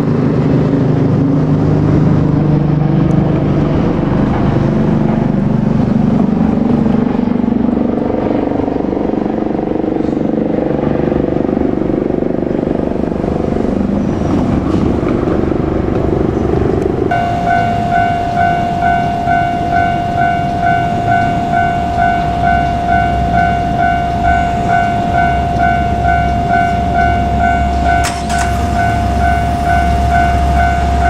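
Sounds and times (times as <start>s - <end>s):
diesel engines running under load: 0.0s - 31.0s.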